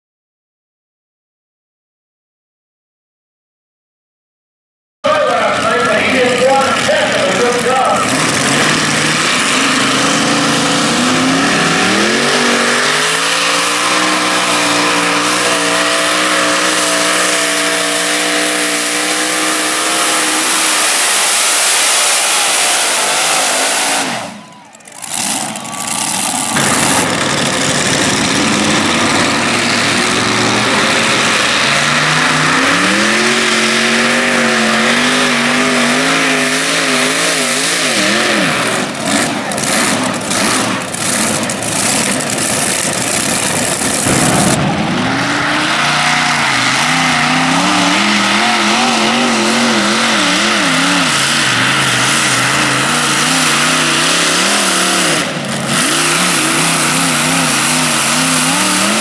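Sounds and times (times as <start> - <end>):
pulling tractor engines at full throttle: 5.1 - 59.0.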